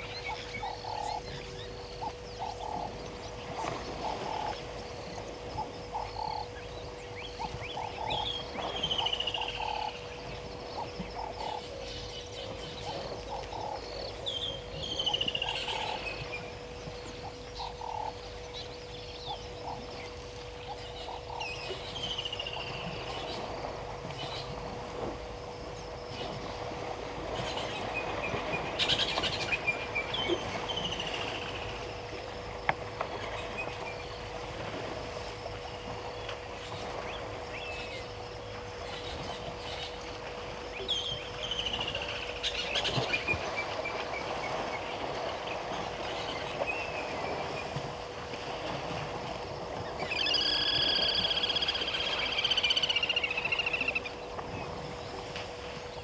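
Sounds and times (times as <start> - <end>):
wild birds calling: 0.0 - 25.1, 25.7 - 56.0
faint steady hum: 0.0 - 56.0.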